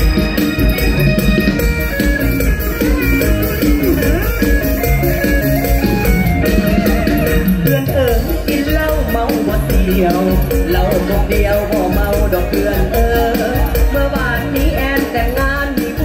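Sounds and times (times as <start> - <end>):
drum kit beat: 0.0 - 16.0
plucked-string melody: 0.0 - 16.0.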